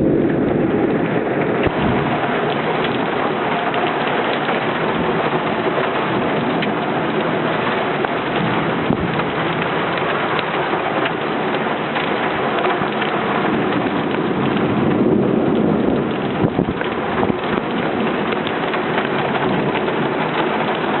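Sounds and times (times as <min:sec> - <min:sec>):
heavy rain: 0:00.0 - 0:21.0
low rumble of thunder: 0:00.0 - 0:21.0
raindrops hitting close by: 0:00.0 - 0:21.0.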